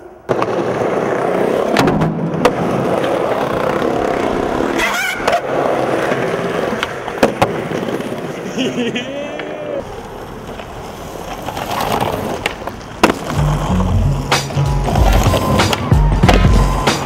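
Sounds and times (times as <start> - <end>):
skateboard clacks: 0.0 - 17.0
skateboard wheels rumbling on concrete: 0.0 - 17.0.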